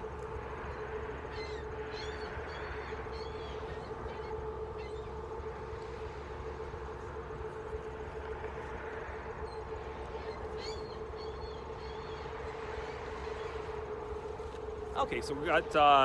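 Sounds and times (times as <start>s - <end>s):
ship engines rumbling: 0.0s - 16.0s.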